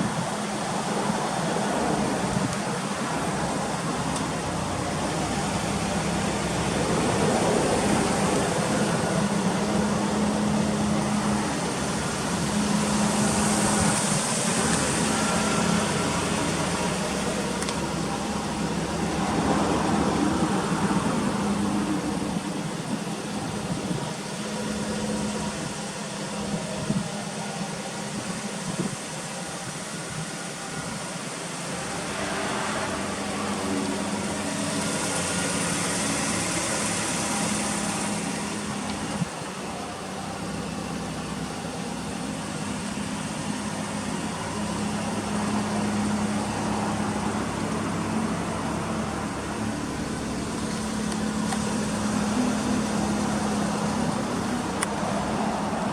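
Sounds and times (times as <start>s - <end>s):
car engine idling: 0.0s - 55.9s
hiss: 0.0s - 55.9s.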